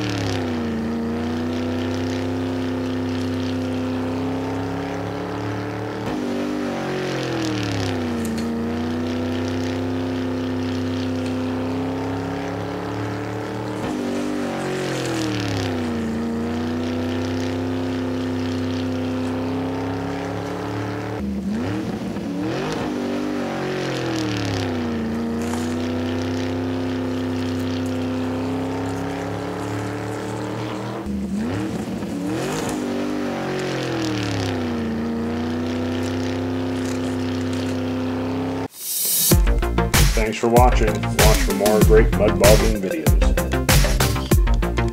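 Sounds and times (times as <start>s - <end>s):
monster truck engine running: 0.0s - 38.7s, 39.3s - 44.9s.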